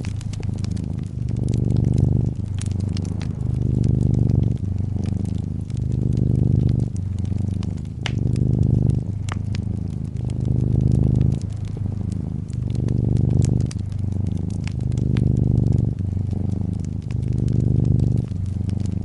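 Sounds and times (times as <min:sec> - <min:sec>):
cat purring: 0:00.0 - 0:19.0
fireplace crackling: 0:00.0 - 0:19.0.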